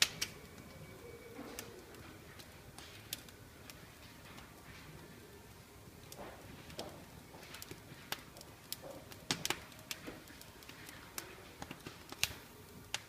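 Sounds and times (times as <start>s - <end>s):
faint steady hiss: 0.0s - 13.0s
fire crackling and popping: 0.0s - 13.0s.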